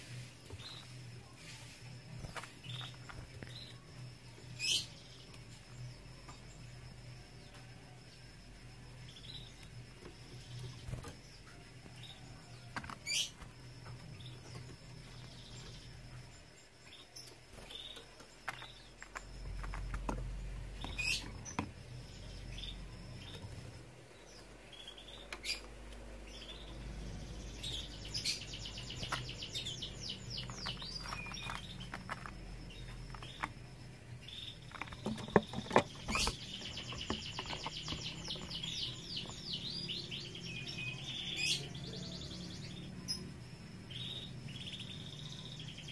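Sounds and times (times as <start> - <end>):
canaries chirping: 0.0 - 45.9
rapid trilled birdsong: 0.0 - 45.9.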